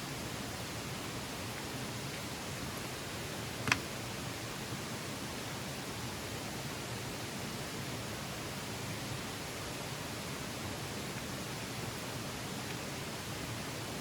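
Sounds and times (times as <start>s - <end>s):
outdoor background rush: 0.0s - 14.0s.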